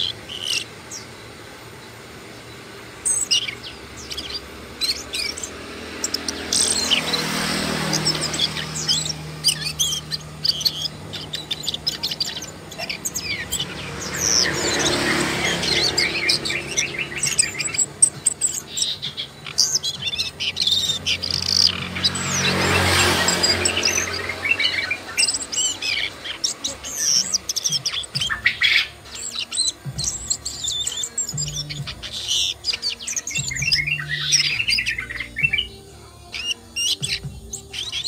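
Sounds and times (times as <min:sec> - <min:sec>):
bird singing high chirps: 0:00.0 - 0:38.0.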